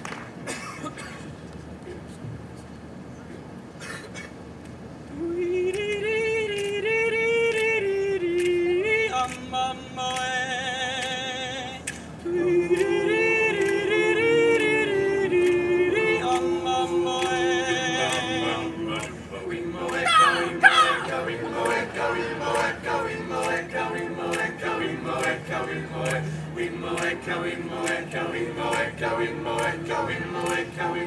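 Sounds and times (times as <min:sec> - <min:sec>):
men singing in harmony: 0:05.5 - 0:31.0.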